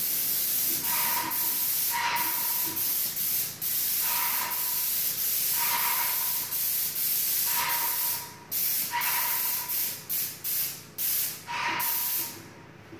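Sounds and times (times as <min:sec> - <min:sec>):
paint spray gun hissing: 0:00.0 - 0:12.4.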